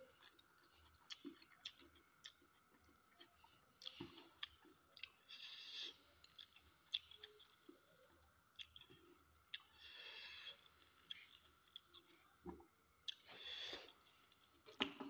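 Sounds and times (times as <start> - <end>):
mouth clicks and smacks chewing: 0.0 - 15.0.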